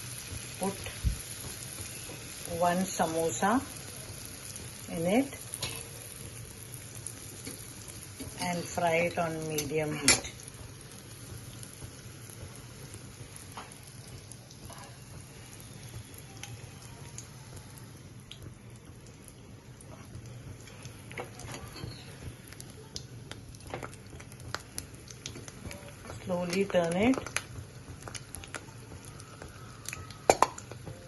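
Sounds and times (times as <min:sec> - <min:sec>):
food sizzling in hot oil: 0:00.0 - 0:31.0
oil popping and crackling: 0:00.0 - 0:31.0.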